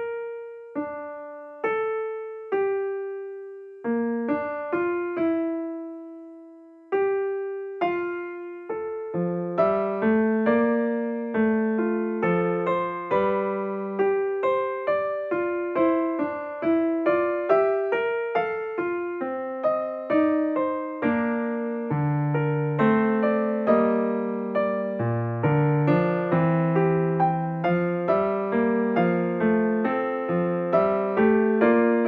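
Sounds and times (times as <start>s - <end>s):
calm solo piano melody: 0.0s - 32.0s.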